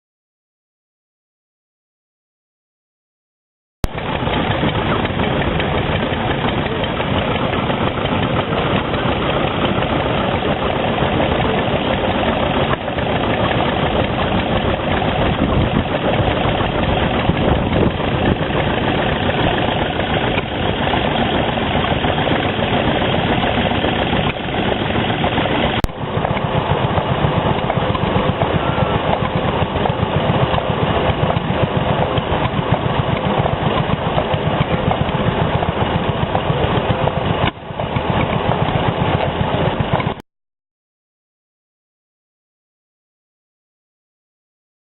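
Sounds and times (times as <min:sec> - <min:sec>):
stationary engines running: 0:03.8 - 0:40.2.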